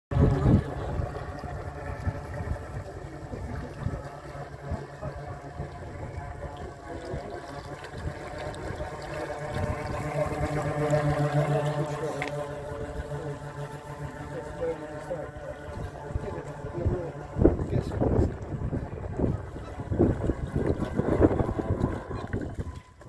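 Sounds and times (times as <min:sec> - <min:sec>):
model motorboat motor hum: 0:00.1 - 0:23.0
wind rumble on microphone: 0:00.1 - 0:23.0.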